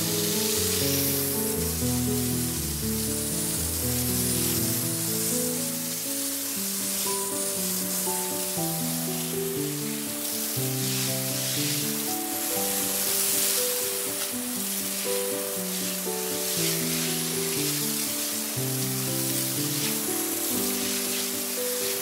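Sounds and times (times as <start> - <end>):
sprinkler water spray hiss: 0.0 - 22.0.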